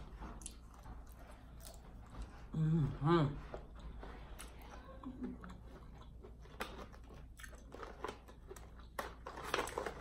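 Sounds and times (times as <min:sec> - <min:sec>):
chewing with wet crunches: 0:00.0 - 0:02.6, 0:03.5 - 0:09.0.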